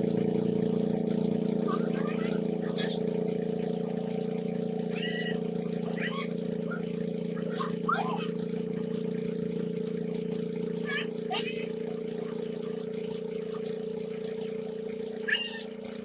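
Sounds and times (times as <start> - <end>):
small engine humming: 0.0 - 16.0.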